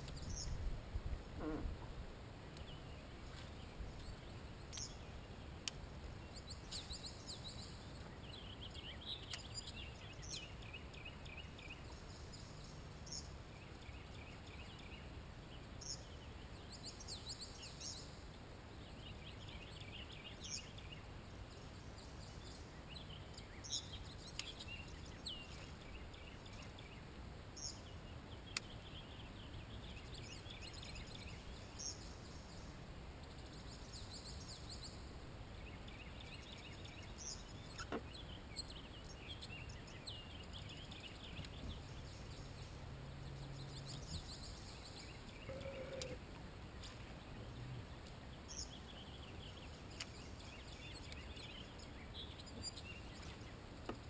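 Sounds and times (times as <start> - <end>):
low steady background noise: 0.0 - 54.0
songbirds singing: 0.0 - 54.0.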